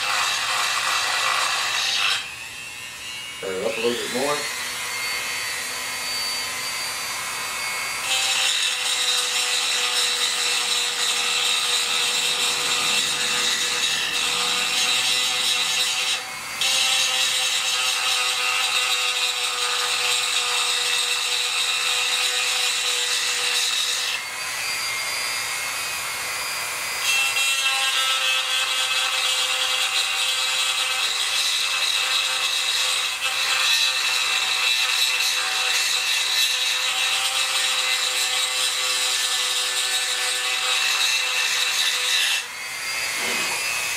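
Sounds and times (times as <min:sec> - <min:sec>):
rotary tool grinding metal: 0:00.0 - 0:43.9.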